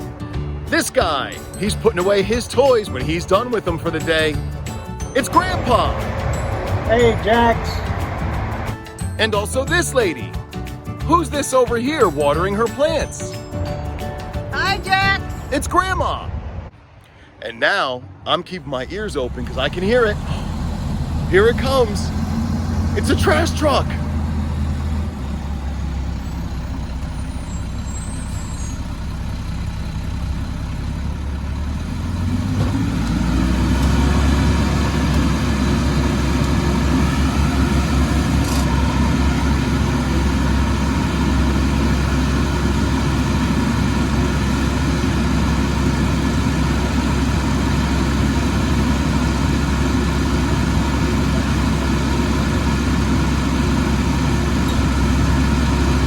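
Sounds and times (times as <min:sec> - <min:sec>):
garbage truck diesel engine: 0:00.0 - 0:16.8, 0:18.1 - 0:56.0.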